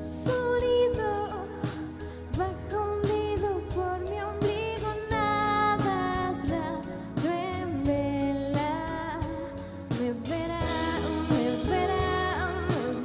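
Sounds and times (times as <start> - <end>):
drum kit beat: 0.0 - 13.0
electric guitar: 0.0 - 13.0
person singing: 0.0 - 13.0.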